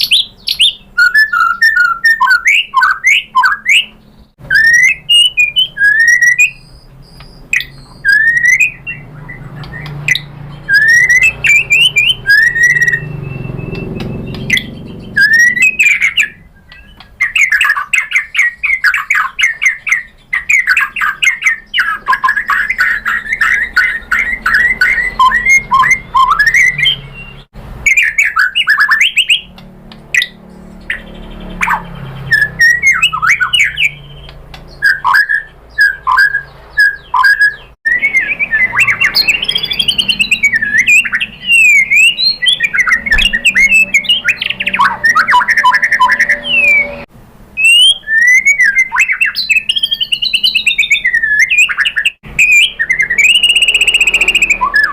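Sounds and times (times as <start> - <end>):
bird singing whistled phrases: 0.0 - 29.5, 30.2 - 54.9
bird chattering run: 0.0 - 47.0.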